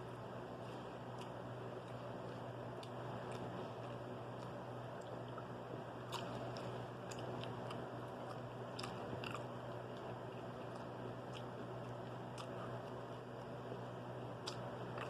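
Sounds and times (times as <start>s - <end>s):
chewing with soft crunches: 0.0s - 15.0s
steady low hum: 0.0s - 15.0s.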